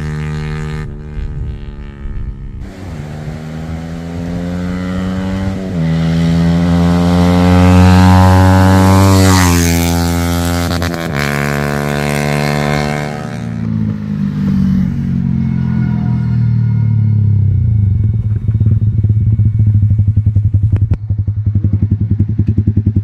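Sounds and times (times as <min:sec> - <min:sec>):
motorcycle accelerating past: 0:00.0 - 0:23.0.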